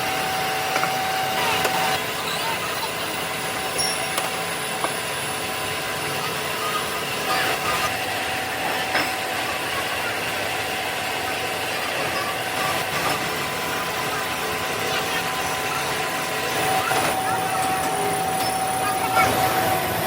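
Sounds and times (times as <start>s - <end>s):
machinery hum: 0.0s - 20.0s
thin steady whines: 0.0s - 20.0s.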